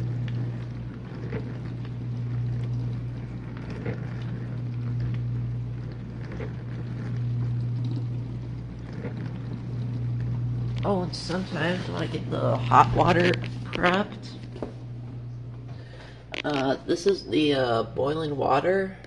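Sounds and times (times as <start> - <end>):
water spraying and sloshing: 0.0 - 17.0
dishwasher pump humming: 0.0 - 19.0.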